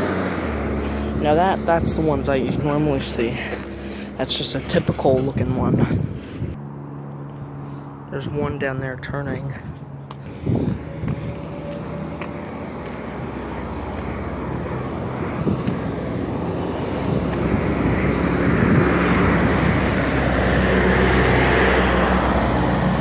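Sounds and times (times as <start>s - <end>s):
road noise: 0.0s - 23.0s
truck engine: 0.0s - 23.0s.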